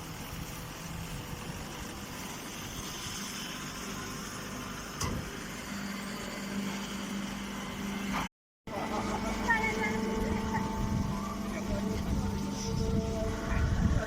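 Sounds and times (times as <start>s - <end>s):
machinery running with low hum: 0.0s - 14.0s.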